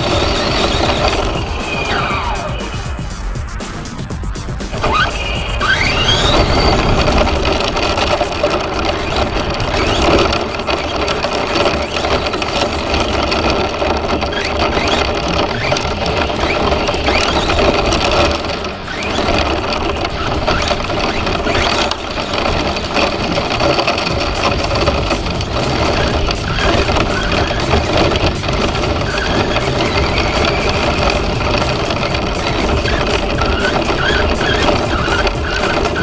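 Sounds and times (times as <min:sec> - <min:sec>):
electric motor whining: 0:00.0 - 0:36.0
tyres crunching on gravel: 0:00.0 - 0:36.0.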